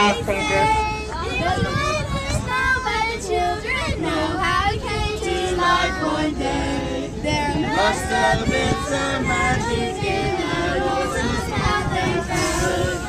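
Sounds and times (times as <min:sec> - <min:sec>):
adults and children singing: 0:00.0 - 0:13.0.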